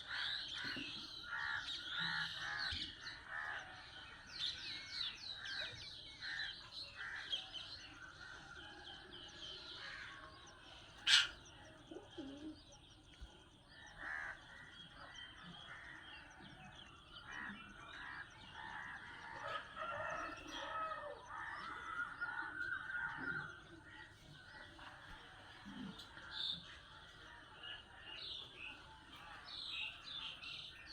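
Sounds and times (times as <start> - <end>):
flock of birds chirping: 0.0 - 30.9.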